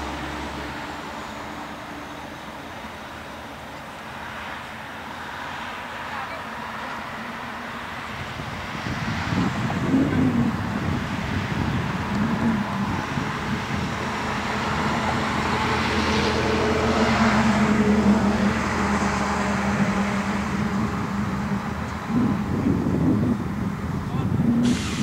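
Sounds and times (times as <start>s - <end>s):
vehicle passing by: 0.0s - 25.0s.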